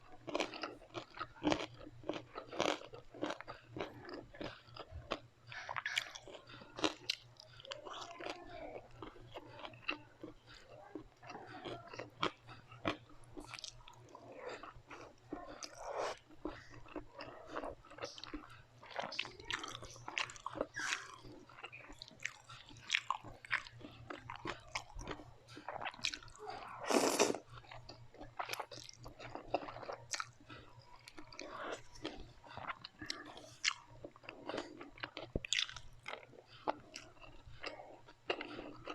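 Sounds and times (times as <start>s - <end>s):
faint low hum: 0.0s - 38.9s
person chewing crunchy food: 0.0s - 38.9s.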